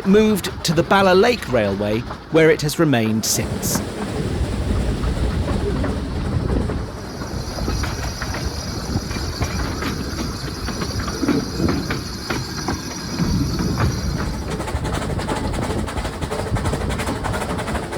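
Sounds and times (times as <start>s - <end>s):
wheels clicking on track: 0.0s - 2.6s, 3.4s - 17.9s
train carriage rumble: 0.0s - 17.9s.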